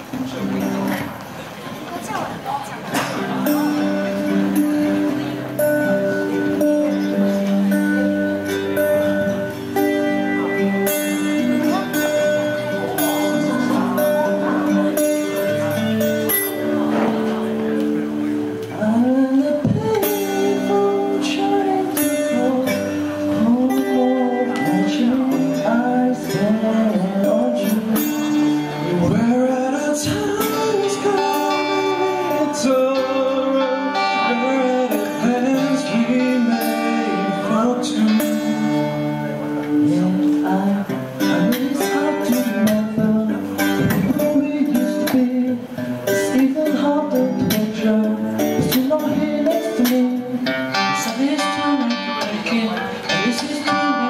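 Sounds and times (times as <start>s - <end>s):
acoustic guitars strummed and picked: 0.0s - 54.0s
man singing: 3.1s - 54.0s.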